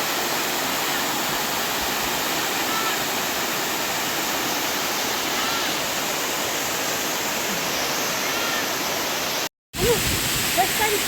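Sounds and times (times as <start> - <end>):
waterfall pouring and splashing: 0.0 - 11.0.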